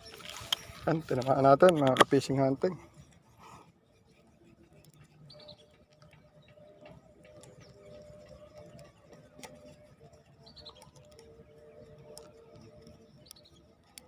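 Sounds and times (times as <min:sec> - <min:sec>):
faint steady hum: 0:00.0 - 0:14.0
underwater clicks and crackling: 0:00.1 - 0:03.2, 0:04.7 - 0:14.0.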